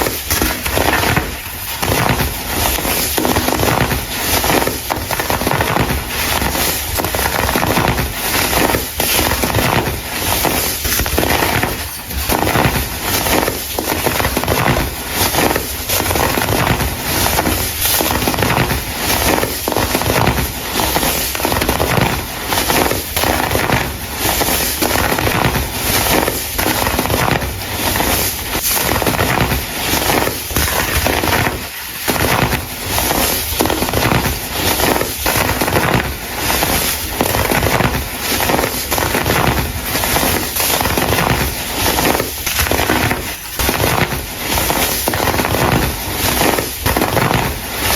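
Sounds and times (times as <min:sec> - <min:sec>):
dry crumble crunching: 0:00.0 - 0:47.9.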